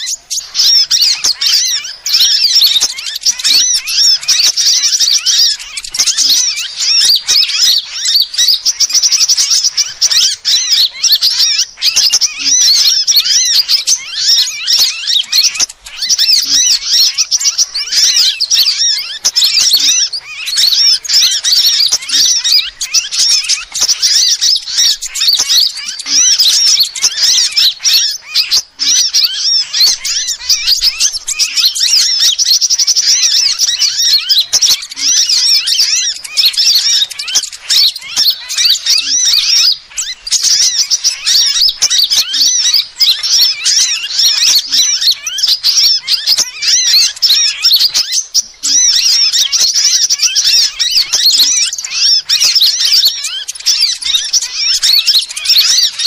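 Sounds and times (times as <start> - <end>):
bird chirping and trilling: 0.0 - 56.0.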